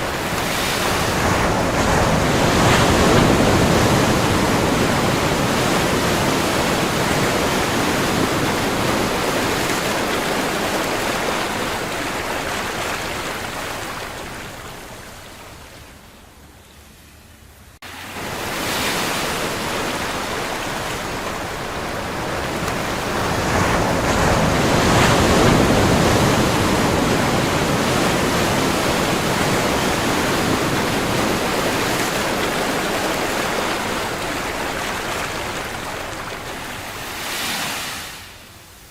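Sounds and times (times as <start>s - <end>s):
waves breaking on shore: 0.0s - 16.5s, 17.8s - 38.9s.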